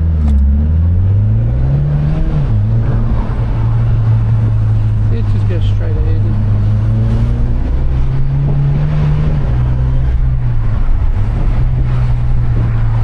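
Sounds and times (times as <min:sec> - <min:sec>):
car engine droning: 0:00.0 - 0:13.0
tyre and road noise: 0:00.0 - 0:13.0.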